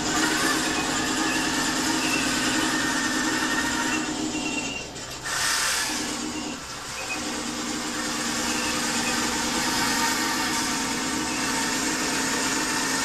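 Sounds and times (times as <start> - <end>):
simulated tank engine idling: 0.0 - 13.0.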